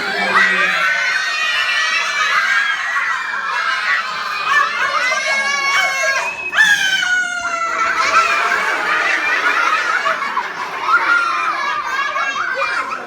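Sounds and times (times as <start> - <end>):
children laughing and shouting: 0.0 - 13.0.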